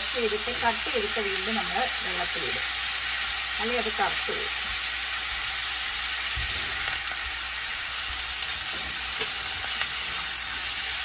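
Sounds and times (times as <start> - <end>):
onion and potato sizzling: 0.0 - 11.0.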